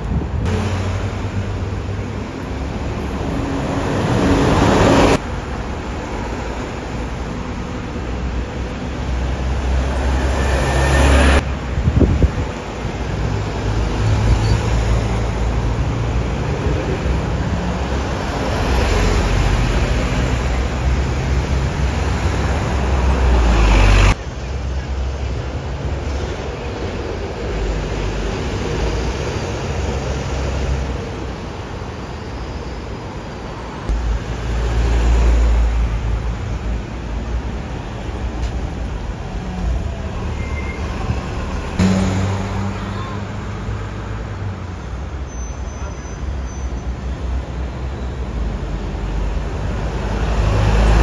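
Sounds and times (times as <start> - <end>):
bus engines rumbling: 0.0 - 51.0
road noise: 0.0 - 51.0.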